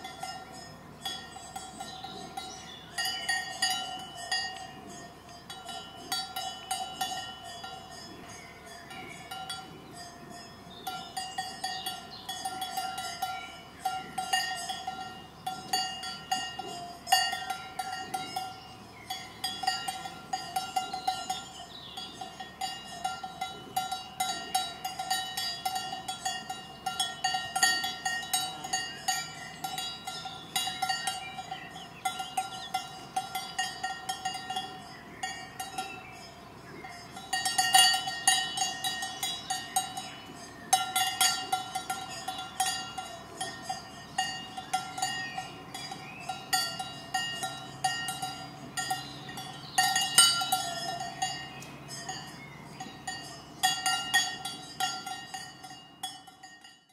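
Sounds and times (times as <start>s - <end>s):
cowbells clanking: 0.0s - 56.9s.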